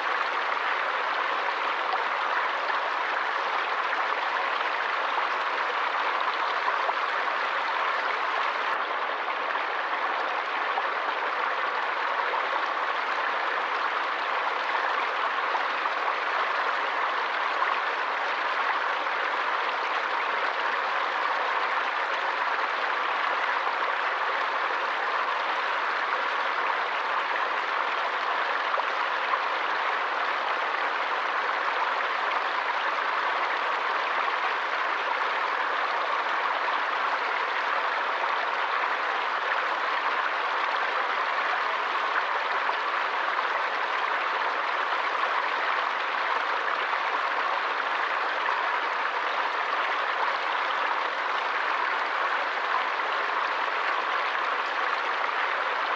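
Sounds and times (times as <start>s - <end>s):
stream water rushing: 0.0s - 55.9s.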